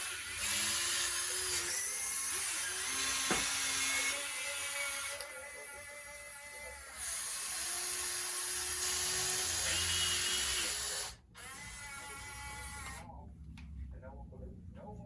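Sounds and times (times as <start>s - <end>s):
electric motors and pumps whining: 0.0s - 13.1s.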